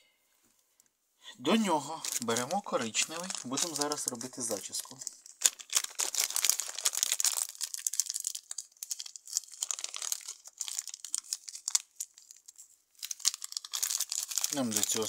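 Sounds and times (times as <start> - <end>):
plastic bag crinkling: 1.7 - 15.0.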